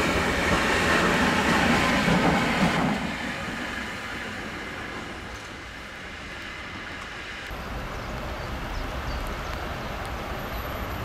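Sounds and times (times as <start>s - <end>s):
train wheel and rail noise: 0.0s - 11.0s.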